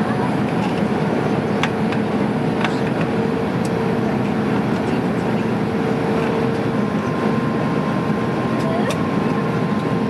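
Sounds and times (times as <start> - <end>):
airplane cabin air and engine noise: 0.0 - 10.0.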